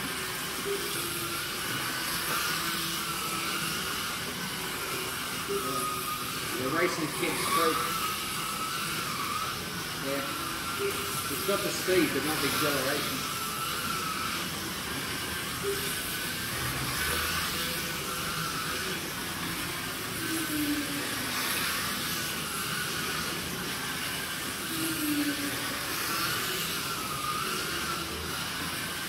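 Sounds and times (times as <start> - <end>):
slot car electric motors whining: 0.0 - 29.0.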